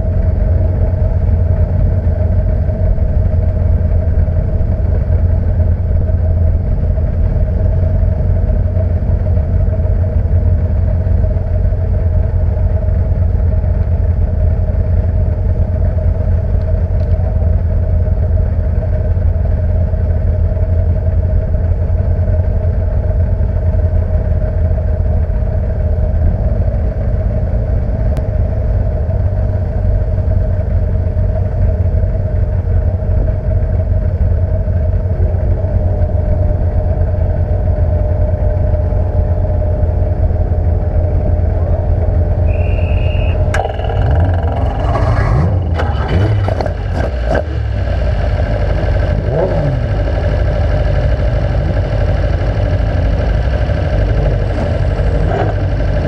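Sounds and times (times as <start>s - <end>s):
racing car engine idling: 0.0s - 56.0s.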